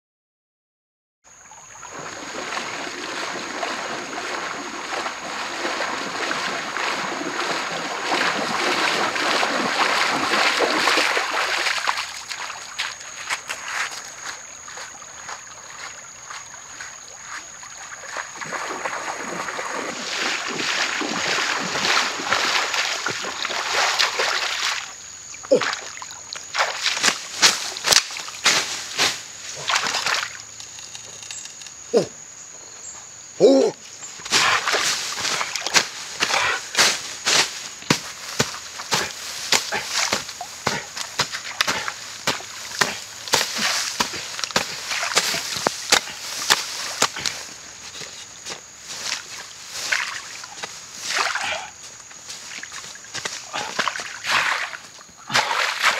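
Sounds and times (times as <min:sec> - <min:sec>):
water splashing from wading: 0:01.4 - 0:13.8, 0:14.7 - 0:30.6, 0:34.3 - 0:47.5, 0:48.9 - 0:51.7, 0:52.4 - 0:55.9.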